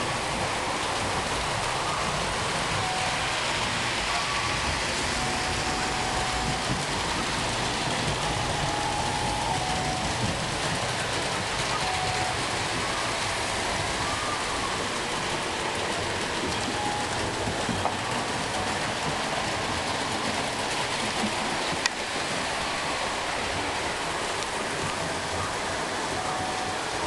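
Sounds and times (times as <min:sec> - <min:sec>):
model trains rumbling on track: 0:00.0 - 0:27.0.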